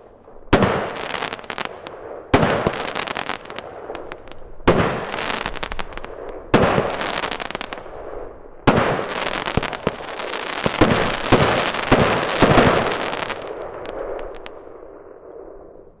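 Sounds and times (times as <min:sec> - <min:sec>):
firework crackling: 0:00.0 - 0:14.6
loud firework bangs: 0:00.5 - 0:14.6.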